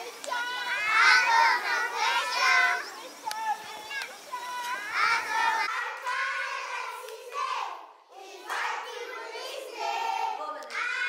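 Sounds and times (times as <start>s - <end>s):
children's voices: 0.0s - 11.0s.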